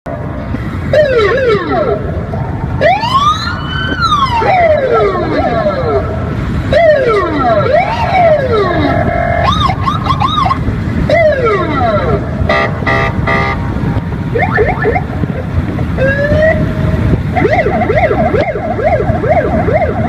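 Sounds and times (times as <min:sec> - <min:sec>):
police electronic siren: 0:00.9 - 0:02.2, 0:02.8 - 0:13.6, 0:14.3 - 0:20.0.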